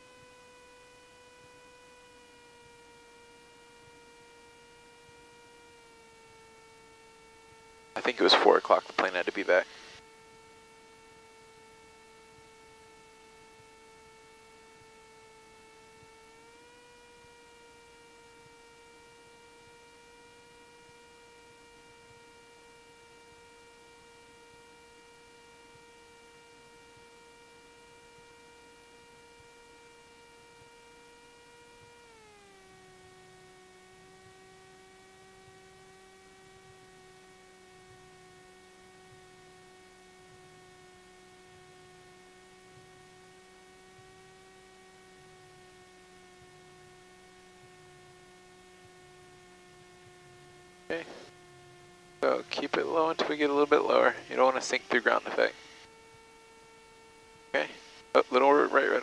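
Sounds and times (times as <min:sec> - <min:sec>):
faint aircraft engine drone: 0:00.0 - 0:59.0.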